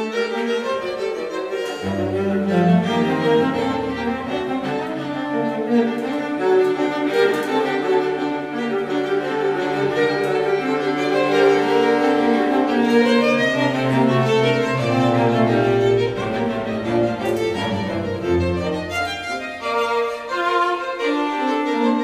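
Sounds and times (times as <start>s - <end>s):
bowed strings holding notes: 0.0s - 22.0s.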